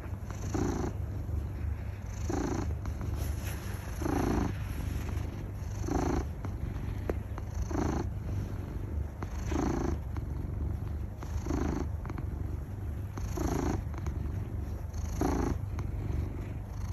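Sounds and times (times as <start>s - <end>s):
cat purring: 0.0s - 16.9s.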